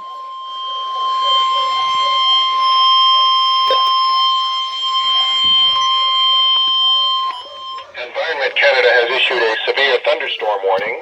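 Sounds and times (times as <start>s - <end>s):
weather radio alarm tone: 0.0s - 11.0s.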